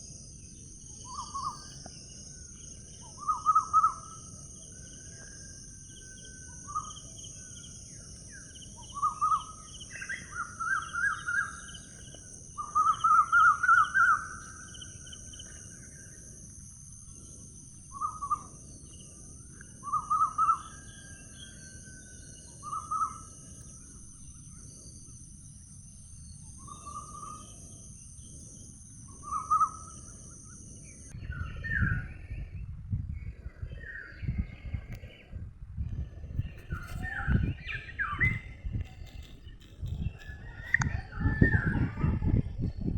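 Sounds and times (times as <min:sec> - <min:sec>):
steady high-pitched hiss: 0:00.0 - 0:40.9.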